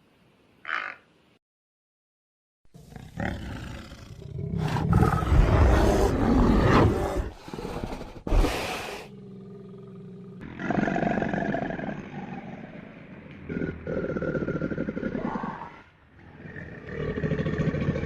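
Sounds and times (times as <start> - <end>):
large animal roaring: 2.8 - 18.0.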